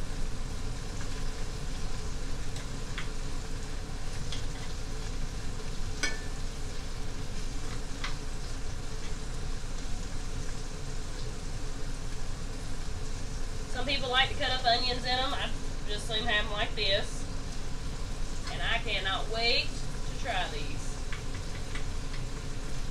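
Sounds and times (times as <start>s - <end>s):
greens sizzling in a skillet: 0.0s - 22.9s.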